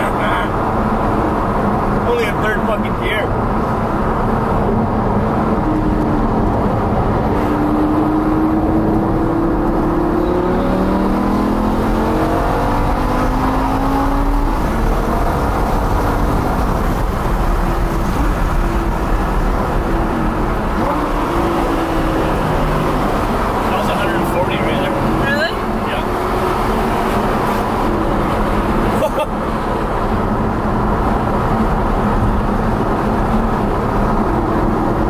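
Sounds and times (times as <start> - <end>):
road and tyre noise: 0.0 - 35.0
car engine accelerating: 3.3 - 35.0.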